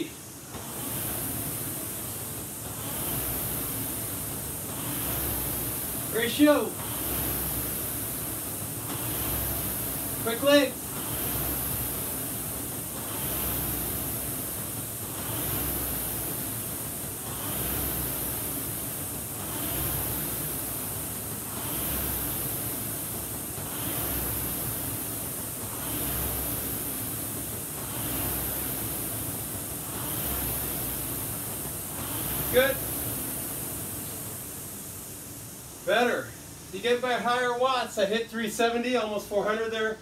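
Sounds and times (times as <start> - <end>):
rowing machine flywheel whirring: 0.0 - 40.0.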